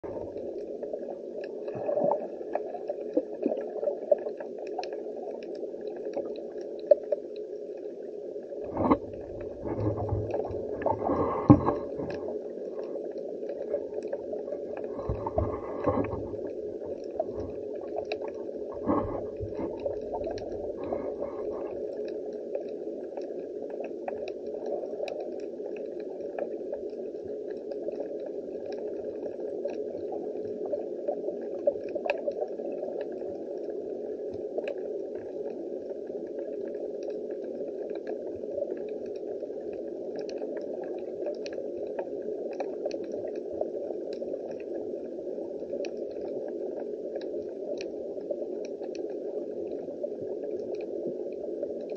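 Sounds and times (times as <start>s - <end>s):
bubbly gurgling: 0.0s - 51.9s
faint clicks and crackles: 0.0s - 51.9s
muffled underwater hiss: 0.0s - 51.9s.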